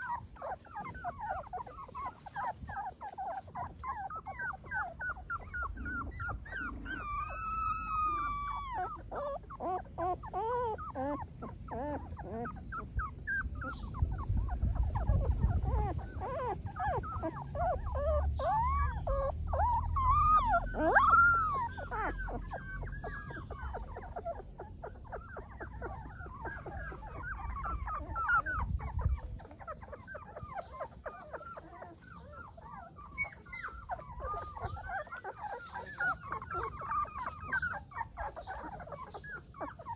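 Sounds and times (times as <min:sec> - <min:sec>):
puppies whimpering and squeaking: 0:00.0 - 0:39.9.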